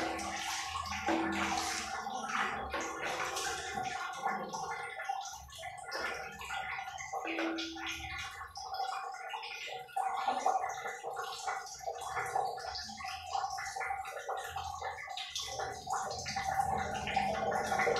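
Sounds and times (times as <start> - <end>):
duck splashing water: 0.0 - 17.9.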